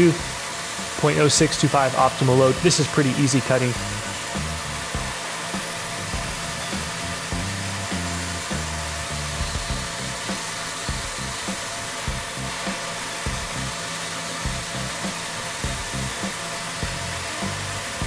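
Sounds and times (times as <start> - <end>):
background music with bass line: 0.0 - 1.8, 3.5 - 18.0
milling machine cutting hiss: 0.0 - 18.0
shop vacuum: 0.0 - 18.0.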